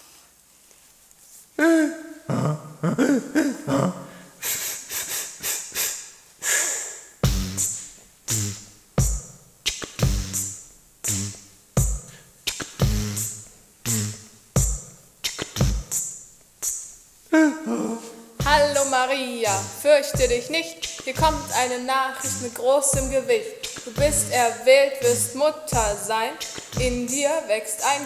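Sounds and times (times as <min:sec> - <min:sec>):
person beatboxing: 0:01.6 - 0:08.6, 0:09.7 - 0:14.2, 0:15.2 - 0:16.0, 0:17.5 - 0:28.0.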